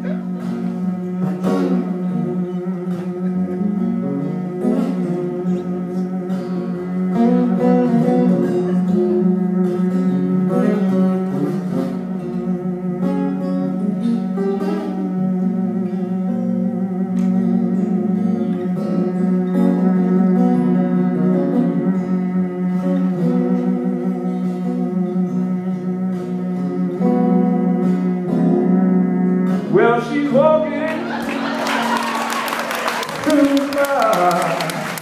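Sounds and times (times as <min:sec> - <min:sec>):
steady low held tone: 0:00.0 - 0:31.5
acoustic guitar picked and strummed: 0:00.0 - 0:35.0.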